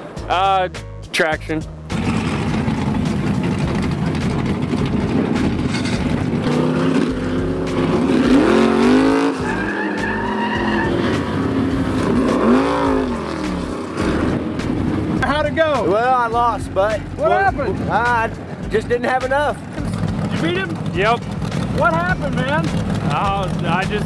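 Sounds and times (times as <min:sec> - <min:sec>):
truck engines revving: 0:00.0 - 0:24.0.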